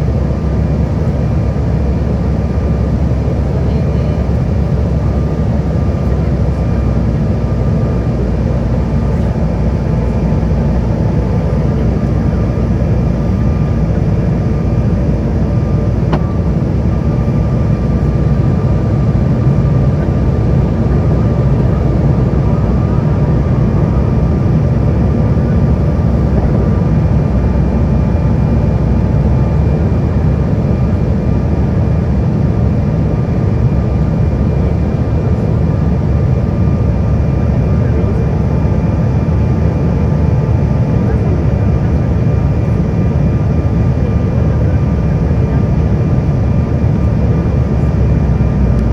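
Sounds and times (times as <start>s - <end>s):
faint steady engine tones: 0.0s - 48.9s
jet engine cabin rumble: 0.0s - 48.9s.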